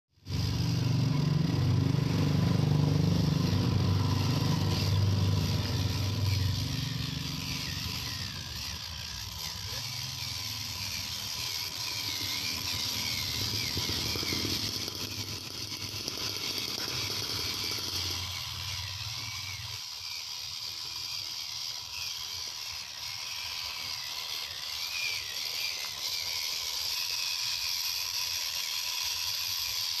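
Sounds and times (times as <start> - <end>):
toy car electric motor whining: 0.1 - 30.0.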